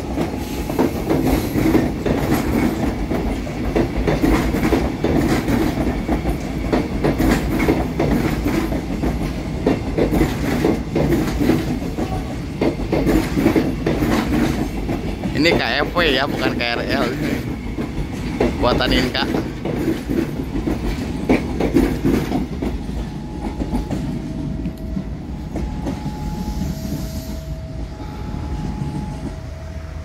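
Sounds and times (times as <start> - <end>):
train wheels clacking over rail joints: 0.0 - 27.0.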